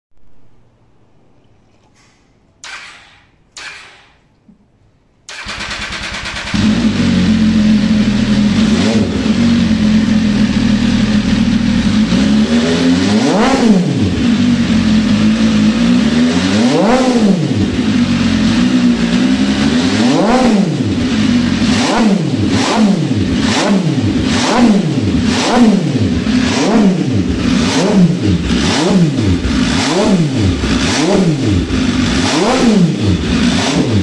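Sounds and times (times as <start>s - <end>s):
motorcycle engine idling and revving: 5.3s - 34.0s.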